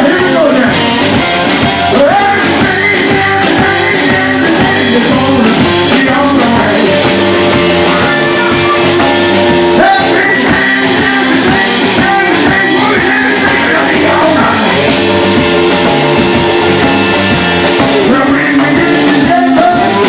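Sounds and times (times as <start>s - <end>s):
amplified harmonica: 0.0s - 20.0s
drums: 0.0s - 20.0s
electric guitars: 0.0s - 20.0s.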